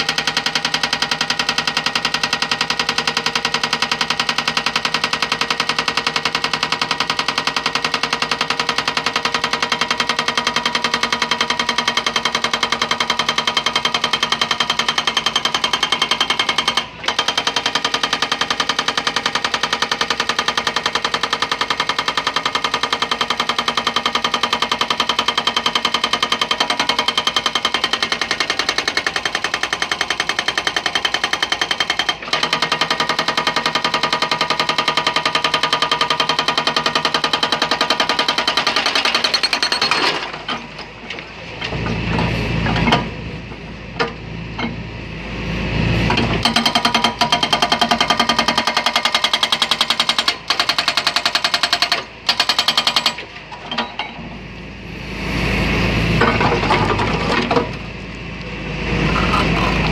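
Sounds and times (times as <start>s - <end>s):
hydraulic breaker hammering concrete: 0.0s - 41.1s, 46.1s - 54.0s.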